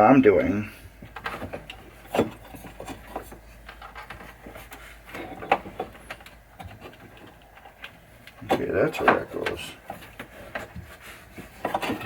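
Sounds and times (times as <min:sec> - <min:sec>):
rubbing on parts: 0:00.8 - 0:12.0.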